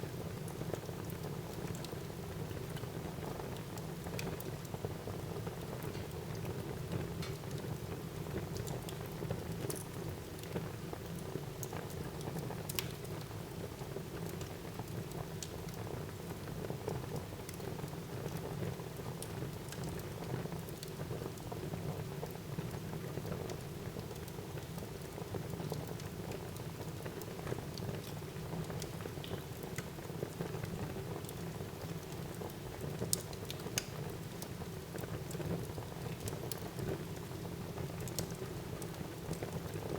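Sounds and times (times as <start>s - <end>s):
wood fire crackling and popping: 0.2s - 39.9s.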